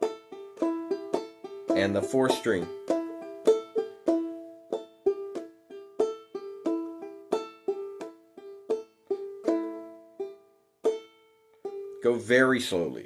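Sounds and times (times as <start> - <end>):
banjolele plucking: 0.0 - 13.0.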